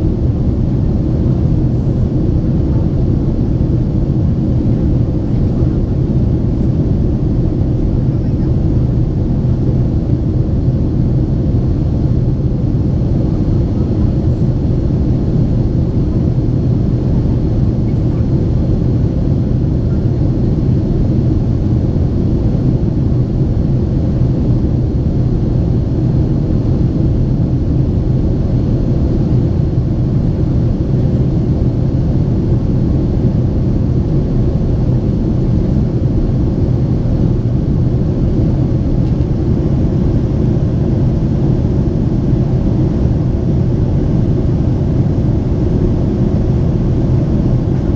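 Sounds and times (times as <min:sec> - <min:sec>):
airplane cabin engine rumble: 0:00.0 - 0:47.9.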